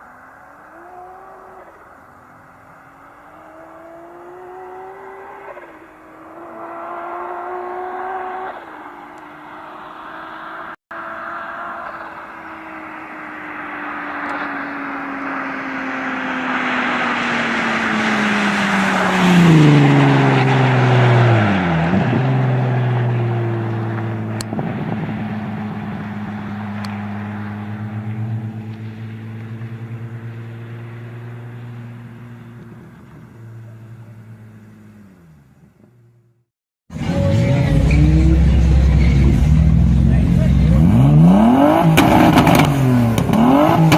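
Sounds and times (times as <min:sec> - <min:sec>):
car driving past: 0:00.0 - 0:36.4.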